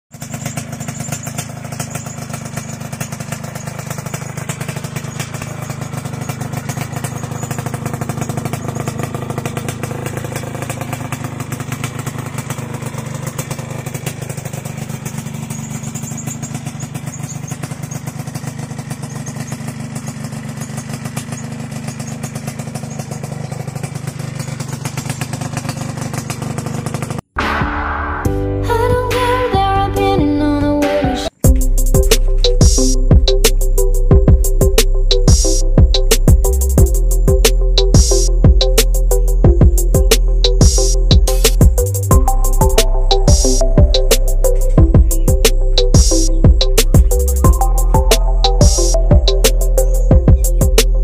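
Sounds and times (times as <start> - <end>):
two-stroke engine idling: 0.1 - 27.3, 28.7 - 51.0.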